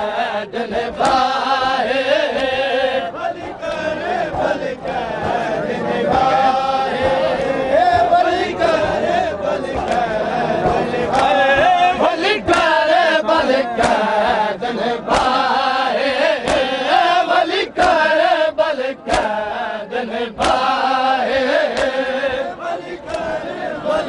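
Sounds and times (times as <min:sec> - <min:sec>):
group chanting a lament: 0:00.0 - 0:24.0
hands slapping chests in unison: 0:00.0 - 0:24.0.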